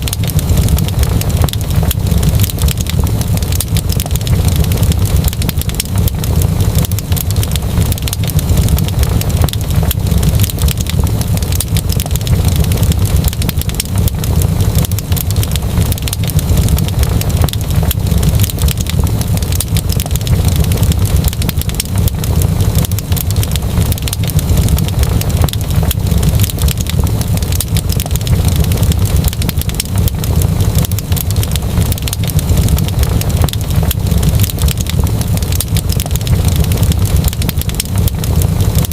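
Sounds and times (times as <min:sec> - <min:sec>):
deep low rumble: 0:00.0 - 0:38.9
wood fire crackling: 0:00.0 - 0:38.9.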